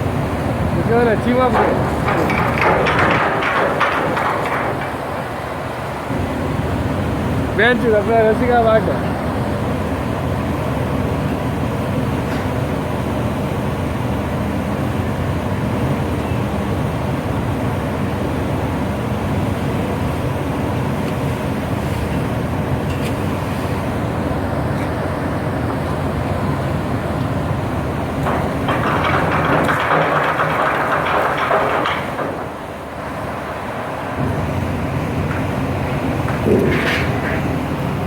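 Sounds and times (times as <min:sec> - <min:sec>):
ship engine droning: 0:00.0 - 0:38.0.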